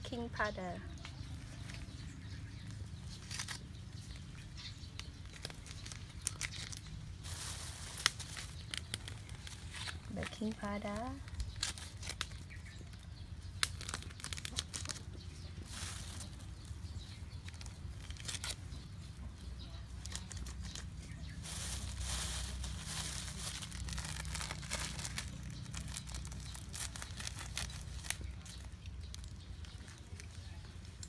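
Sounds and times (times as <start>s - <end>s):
plastic packets crinkling: 3.1s - 19.1s, 19.8s - 31.0s.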